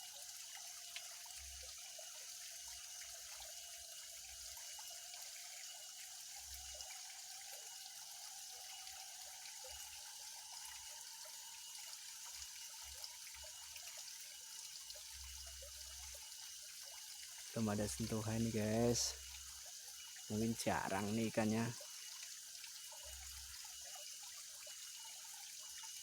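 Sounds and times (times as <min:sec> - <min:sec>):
trickling water hiss: 0:00.0 - 0:26.0.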